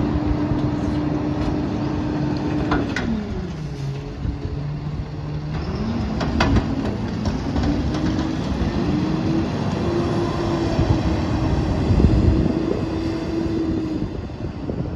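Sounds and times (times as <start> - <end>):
diesel truck engine pulling away: 0.0 - 14.9.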